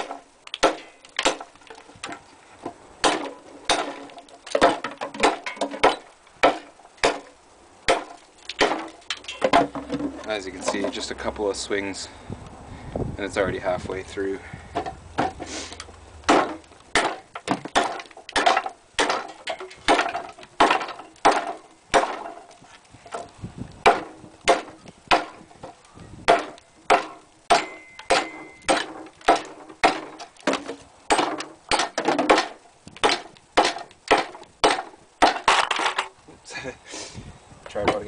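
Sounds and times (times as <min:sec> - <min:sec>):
blade chopping wood: 0:00.0 - 0:11.1, 0:14.8 - 0:22.5, 0:23.1 - 0:36.1.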